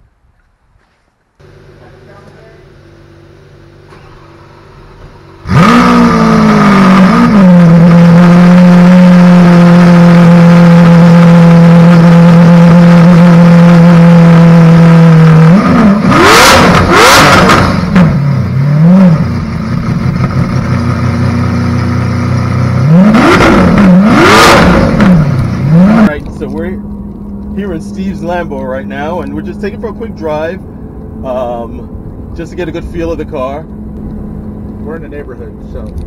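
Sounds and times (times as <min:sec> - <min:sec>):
sports car engine revving and idling: 0:00.8 - 0:36.0.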